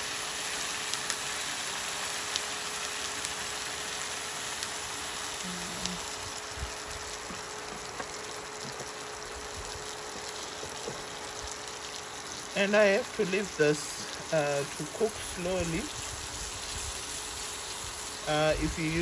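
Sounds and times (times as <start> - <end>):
stew sizzling in a pot: 0.0 - 19.0.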